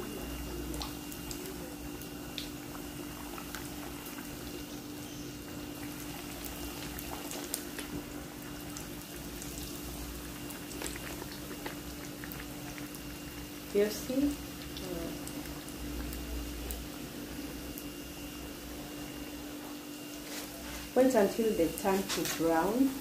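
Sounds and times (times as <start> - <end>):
dough deep-frying in oil: 0.0 - 23.0
faint steady hum: 0.0 - 23.0
small pops of frying: 0.0 - 23.0.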